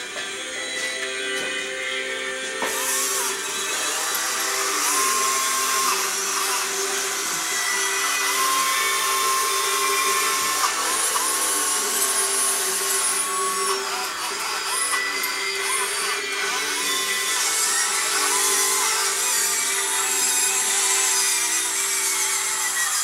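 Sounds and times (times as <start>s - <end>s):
toy electric motors whining: 0.0s - 23.0s.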